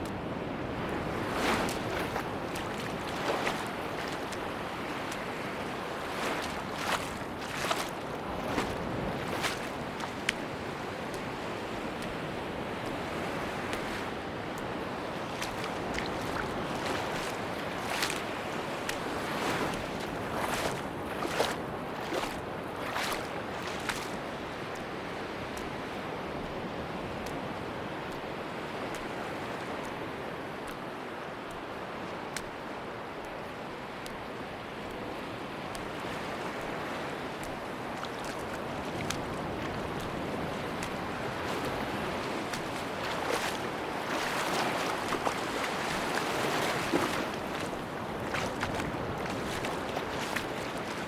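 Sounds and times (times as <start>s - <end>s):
sea waves washing onto beach: 0.0s - 51.0s.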